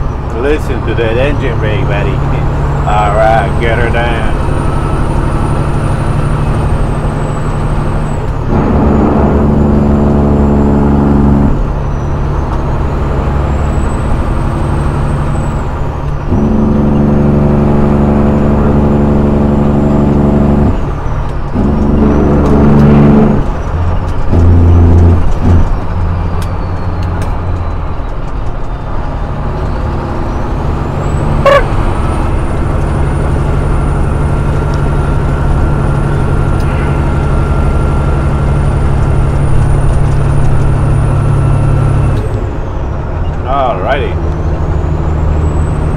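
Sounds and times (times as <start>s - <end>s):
diesel truck engine driving: 0.0s - 45.9s.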